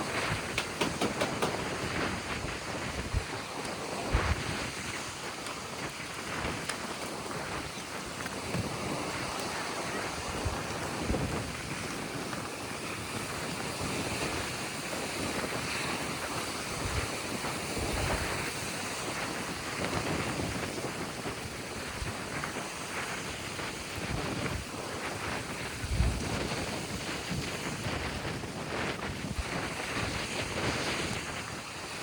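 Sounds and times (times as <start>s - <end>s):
waves breaking on beach: 0.0s - 32.0s
wind buffeting microphone: 0.0s - 32.0s.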